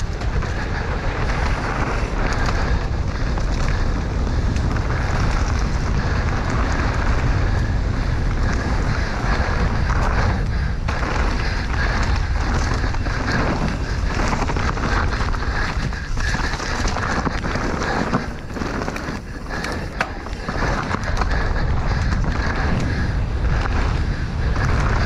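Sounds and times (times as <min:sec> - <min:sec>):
bike rattling: 0:00.0 - 0:25.0
bike tyres rolling over dirt: 0:00.0 - 0:25.0
wind noise on microphone: 0:00.0 - 0:25.0.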